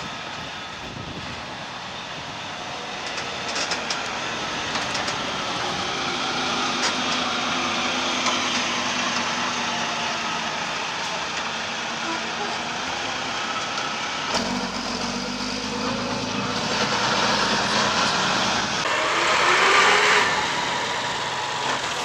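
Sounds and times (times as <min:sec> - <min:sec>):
bus engine driving past: 0:00.0 - 0:22.0.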